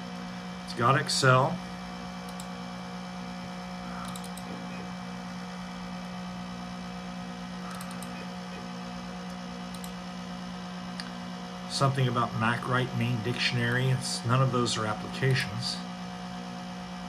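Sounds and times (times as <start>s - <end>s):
computer fan and hard drive droning: 0.0s - 17.0s.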